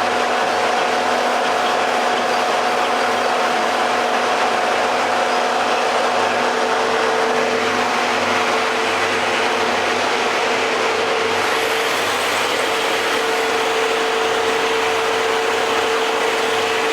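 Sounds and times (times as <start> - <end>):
spindle moulder motor whine: 0.0 - 16.9.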